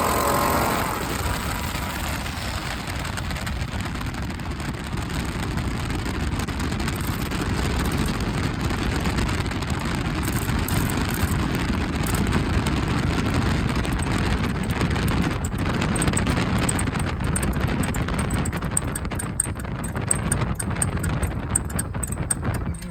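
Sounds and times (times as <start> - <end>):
engine and road rumble: 0.0 - 22.9
wind buffeting microphone: 0.0 - 22.9.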